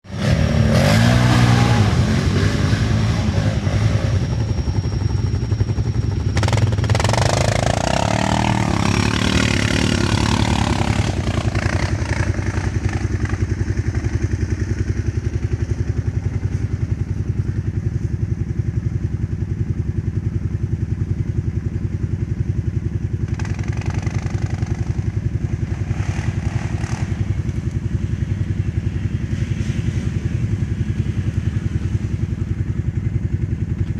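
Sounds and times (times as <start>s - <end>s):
atv engine revving and idling: 0.1s - 33.9s.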